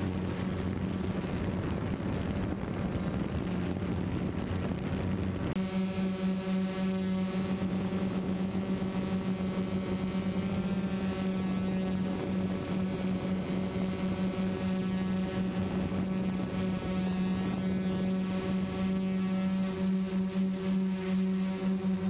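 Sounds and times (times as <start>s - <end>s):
drone motors buzzing: 0.0s - 22.0s.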